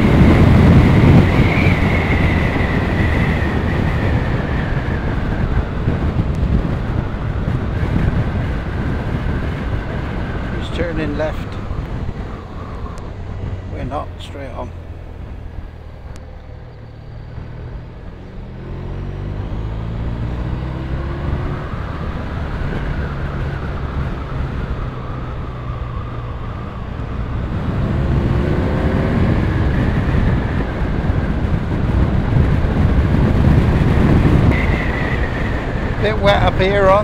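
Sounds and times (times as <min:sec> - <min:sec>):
motorcycle engine accelerating: 0:00.0 - 0:10.6, 0:11.3 - 0:37.0
wind and road rush: 0:00.0 - 0:37.0.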